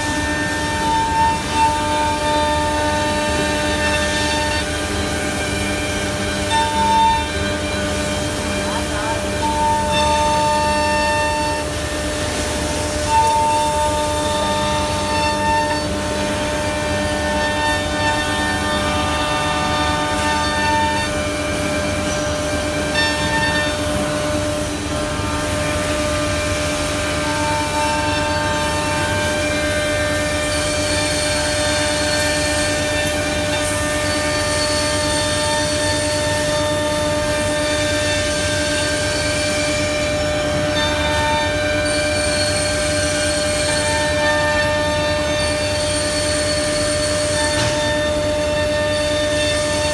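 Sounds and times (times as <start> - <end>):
machine spindle whine: 0.0 - 49.9.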